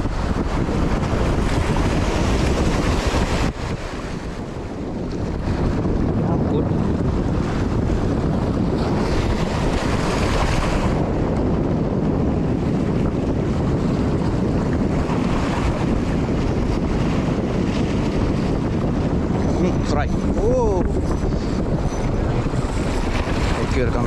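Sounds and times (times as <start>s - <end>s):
waves washing on shore: 0.0s - 24.0s
wind buffeting microphone: 0.0s - 24.0s.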